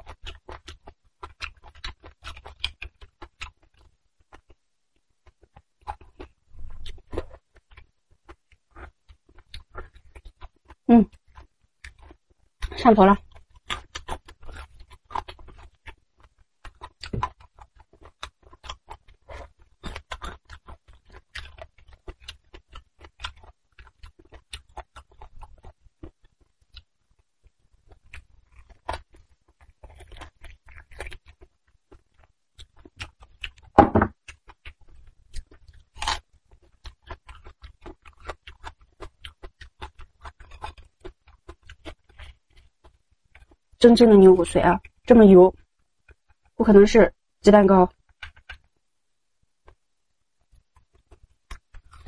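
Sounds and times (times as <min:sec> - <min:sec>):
chewing with wet mouth smacks: 0:00.0 - 0:04.6, 0:05.2 - 0:43.6, 0:50.5 - 0:52.0.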